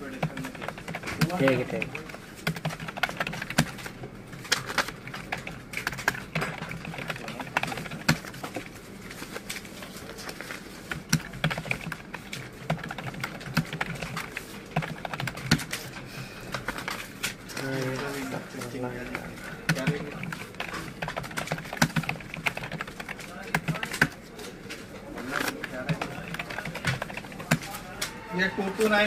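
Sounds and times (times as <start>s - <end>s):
typing on computer keyboard: 0.0s - 8.7s, 10.2s - 24.5s, 25.2s - 28.2s.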